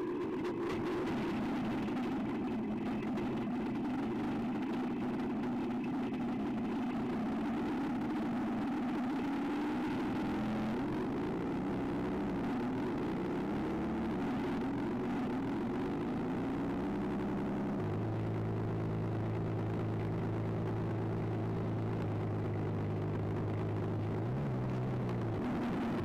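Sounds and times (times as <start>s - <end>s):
simulated aircraft engine drone: 0.0s - 26.0s.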